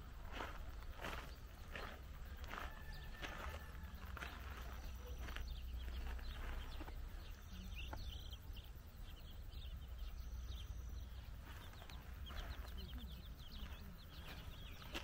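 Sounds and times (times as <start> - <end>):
steady low rumble: 0.0 - 15.0
chicks peeping: 0.3 - 15.0.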